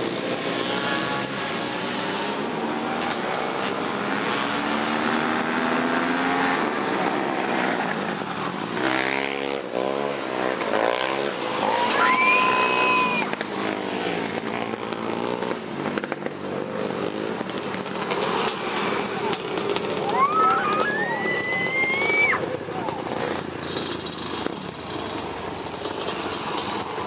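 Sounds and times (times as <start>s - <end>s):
racing engines running hard: 0.0s - 27.0s.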